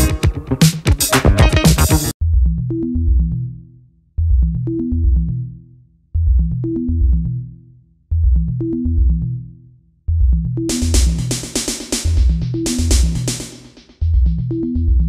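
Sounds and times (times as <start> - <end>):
drum machine and bass loop: 0.0 - 3.5, 4.2 - 5.6, 6.2 - 7.5, 8.1 - 9.5, 10.1 - 15.0.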